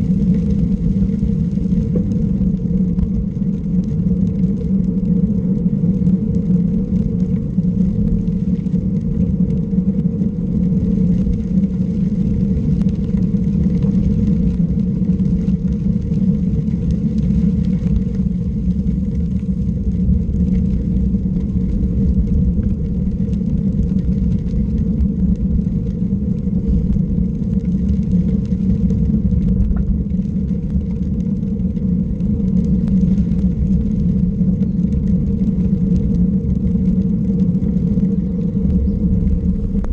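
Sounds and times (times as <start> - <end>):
road and wind rumble: 0.0 - 39.9
vehicle engine running steadily: 0.0 - 39.9.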